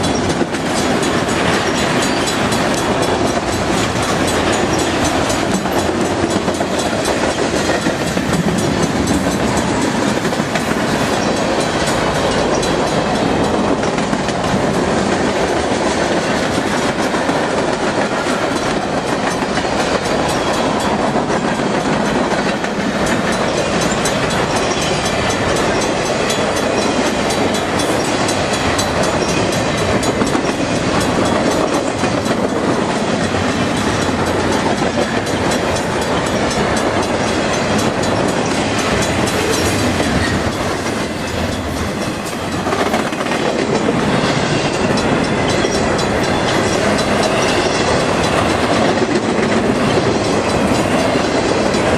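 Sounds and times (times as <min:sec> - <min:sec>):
freight train rumbling past: 0:00.0 - 0:51.9
wheels clacking over rail joints: 0:00.0 - 0:51.9.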